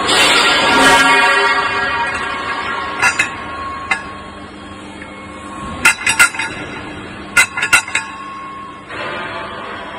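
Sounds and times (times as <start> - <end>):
faint steady hum: 0.0 - 9.9.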